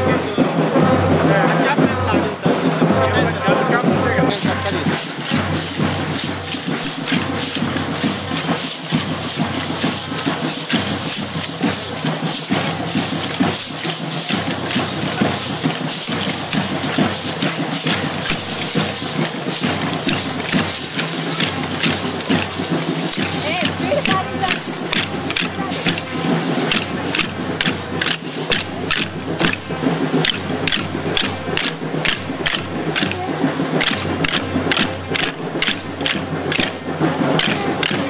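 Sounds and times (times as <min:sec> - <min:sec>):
steady hiss: 0:04.3 - 0:38.0
wooden sticks clicking: 0:04.4 - 0:38.0.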